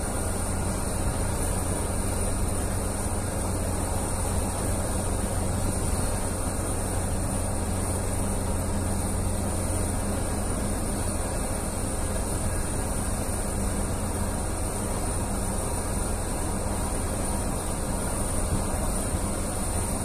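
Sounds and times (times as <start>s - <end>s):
low diesel engine drone: 0.0s - 20.0s.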